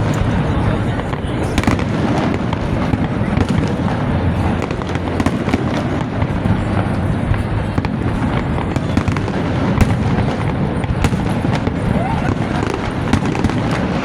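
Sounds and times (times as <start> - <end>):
firework bang: 0.0 - 14.0
fireworks crackling pops: 0.0 - 14.0
low rumble: 0.0 - 14.0.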